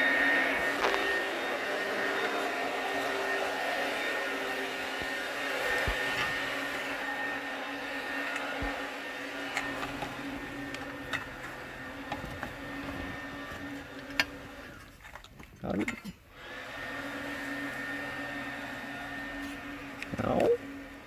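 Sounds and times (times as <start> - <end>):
leaf blower droning: 0.0 - 15.0, 16.3 - 21.0.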